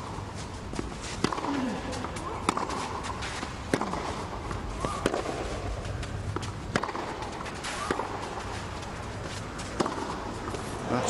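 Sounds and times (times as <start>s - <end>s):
tennis racquets hitting ball: 0.0s - 10.8s
steady background hum: 0.0s - 11.0s.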